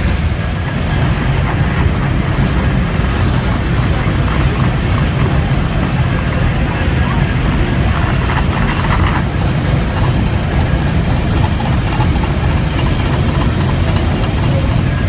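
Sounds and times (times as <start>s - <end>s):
train running gear rumbling: 0.0s - 15.0s.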